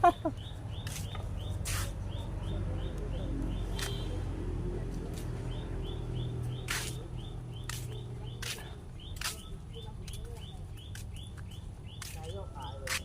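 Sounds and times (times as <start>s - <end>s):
small bird chirping: 0.1s - 4.2s, 5.5s - 13.0s.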